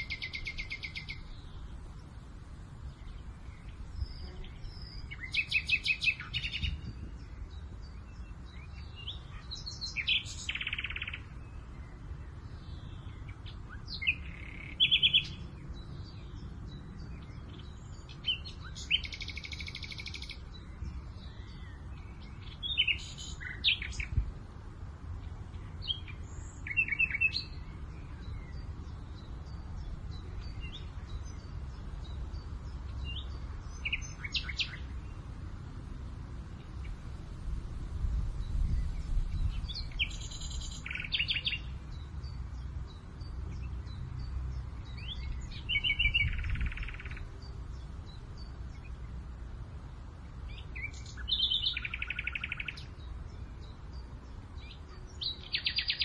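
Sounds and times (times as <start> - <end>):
low rumble of wind: 0.0 - 56.0
songbirds singing and chirping: 0.0 - 56.0.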